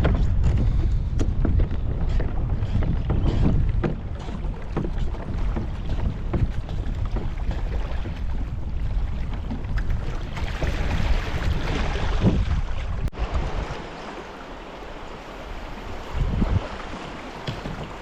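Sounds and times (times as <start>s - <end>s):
wind rumbling on microphone: 0.0s - 18.0s
river water running: 2.1s - 18.0s.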